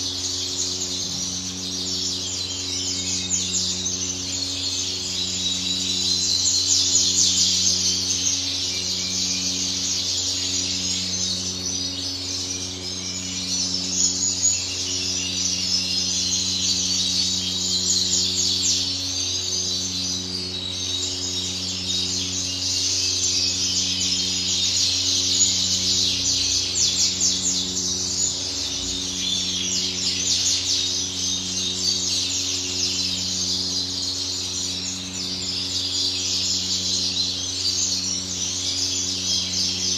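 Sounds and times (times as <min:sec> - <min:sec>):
canaries chirping and singing: 0:00.0 - 0:39.9
low pulsing hum: 0:00.0 - 0:39.9.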